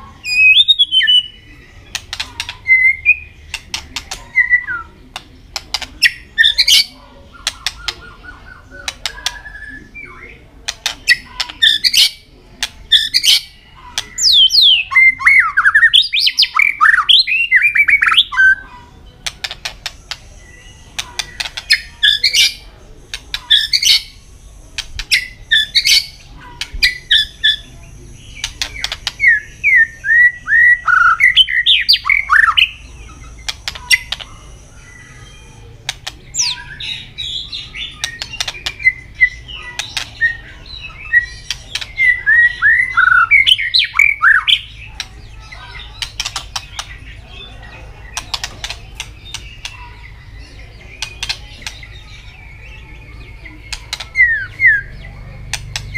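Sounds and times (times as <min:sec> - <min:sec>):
sharp clicking bird calls: 0:00.0 - 0:55.9.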